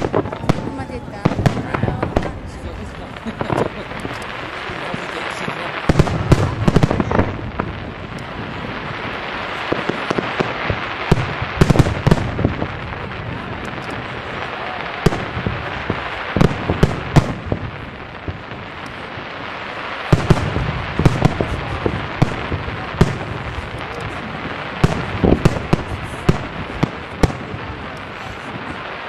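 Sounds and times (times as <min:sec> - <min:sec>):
firework crackling rumble: 0:00.0 - 0:29.0
firework shells bursting: 0:00.0 - 0:29.0.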